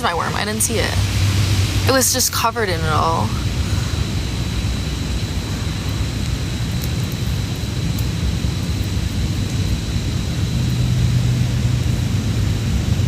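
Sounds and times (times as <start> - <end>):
faint high whine: 0.0 - 13.0
wind buffeting microphone: 0.0 - 13.0.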